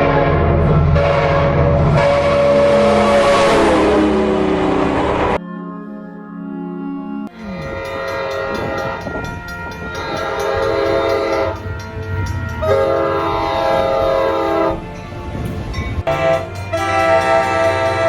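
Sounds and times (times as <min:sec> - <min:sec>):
locomotive air horn: 0:00.0 - 0:05.4, 0:06.1 - 0:18.0
train rumbling past: 0:00.0 - 0:05.4, 0:07.3 - 0:18.0.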